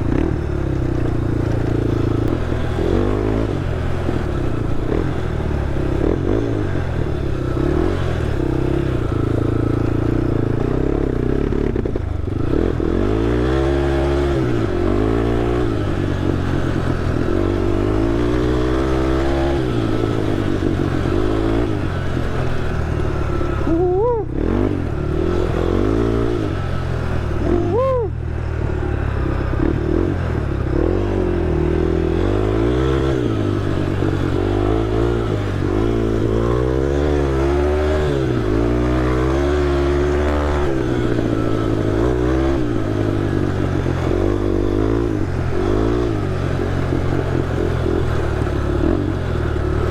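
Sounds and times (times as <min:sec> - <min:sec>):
atv engine revving: 0:00.0 - 0:49.9.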